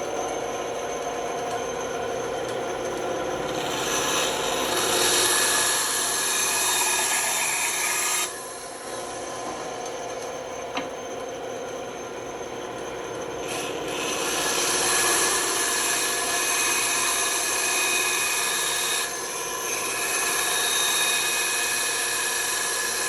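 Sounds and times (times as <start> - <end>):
band saw cutting workpiece: 0.0 - 11.1, 13.0 - 23.0
band saw running: 0.0 - 23.0.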